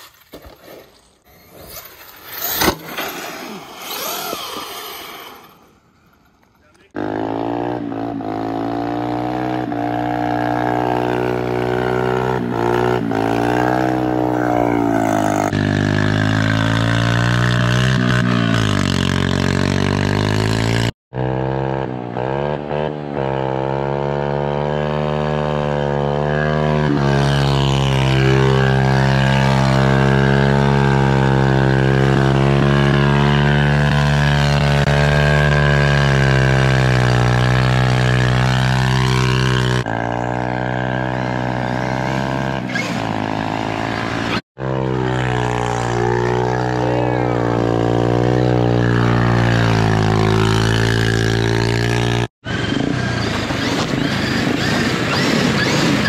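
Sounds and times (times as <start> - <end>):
motorbike engine running hard: 7.0 - 56.0.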